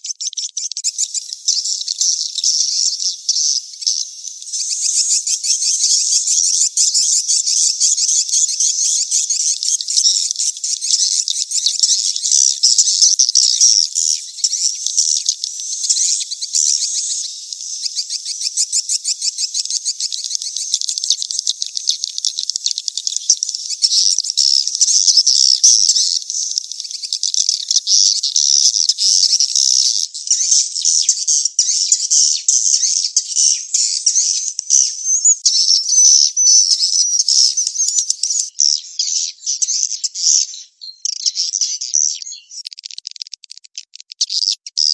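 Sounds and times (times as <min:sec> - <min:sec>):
swiftlets twittering and chirping: 0:00.0 - 0:44.9.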